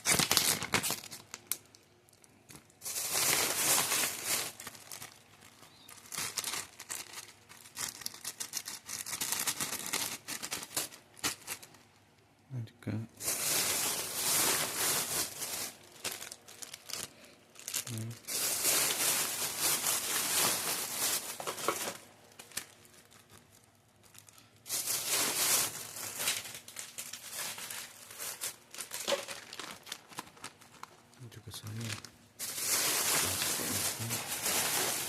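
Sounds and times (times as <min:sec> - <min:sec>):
plastic wrappers crinkling: 0:00.0 - 0:12.3, 0:13.2 - 0:35.0.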